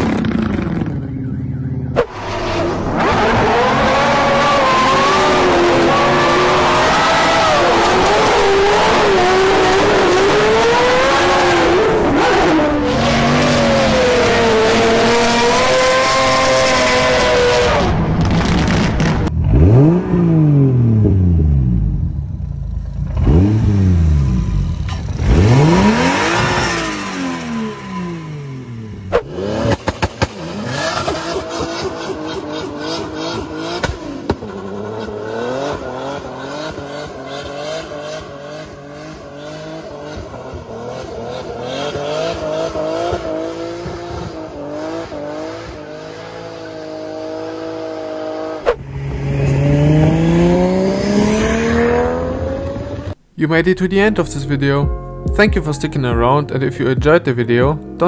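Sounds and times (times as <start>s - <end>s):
car engine revving: 0.0s - 55.5s.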